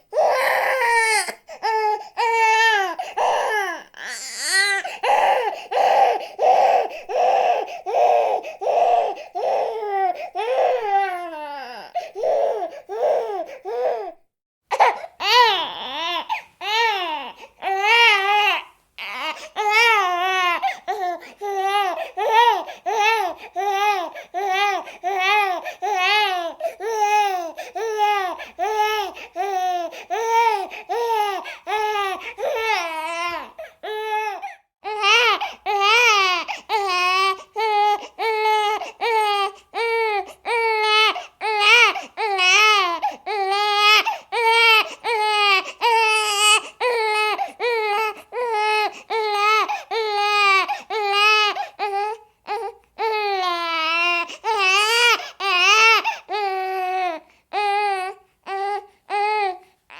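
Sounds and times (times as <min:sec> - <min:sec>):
baby crying: 0:00.0 - 0:59.9.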